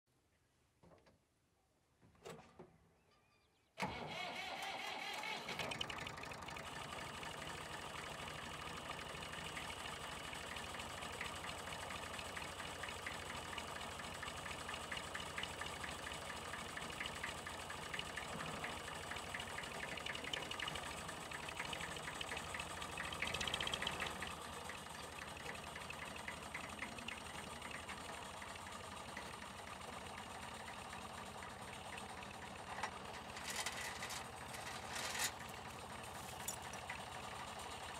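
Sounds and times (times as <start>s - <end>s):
excavator diesel engine running: 3.8s - 37.9s.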